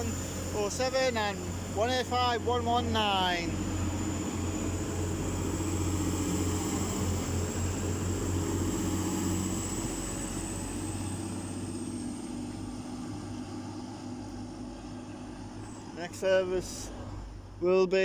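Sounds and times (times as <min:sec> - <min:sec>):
high whine rising in pitch: 0:00.0 - 0:17.4
train engine drone: 0:00.0 - 0:18.0.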